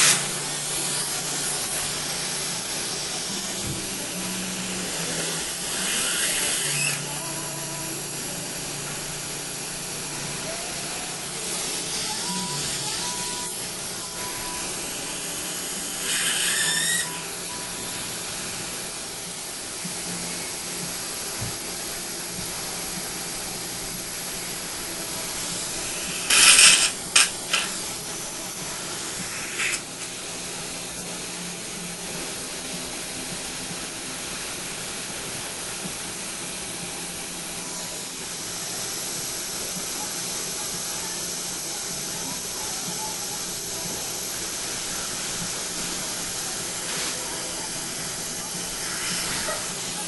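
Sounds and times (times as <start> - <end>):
dental suction hiss: 0.0 - 31.3, 35.5 - 50.0.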